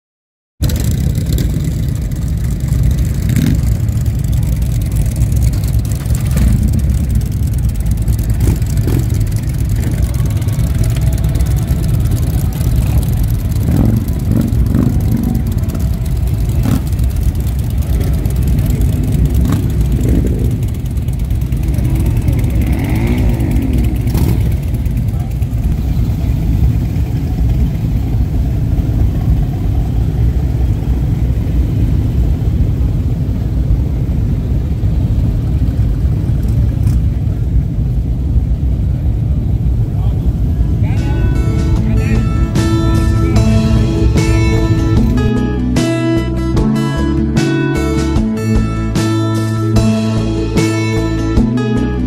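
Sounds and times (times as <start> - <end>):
motorcycle engine revving: 0.6 - 52.0
motorcycles idling rumble: 0.6 - 52.0.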